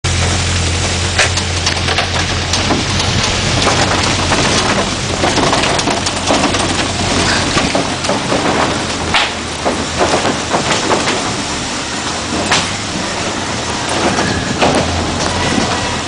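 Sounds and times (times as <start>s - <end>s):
low engine hum: 0.0s - 16.0s
road and tyre noise: 0.0s - 16.0s
knocks and rattles: 0.1s - 16.0s.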